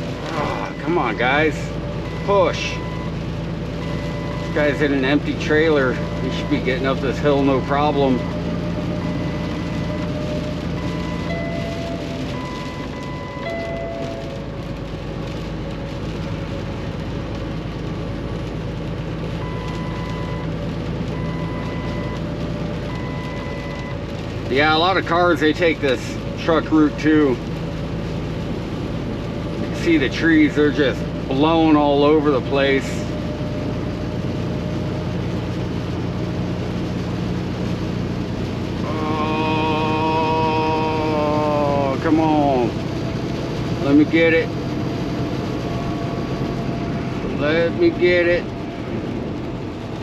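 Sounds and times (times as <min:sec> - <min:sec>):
diesel truck engine running: 0:00.0 - 0:50.0
road and wet-weather noise: 0:00.0 - 0:50.0.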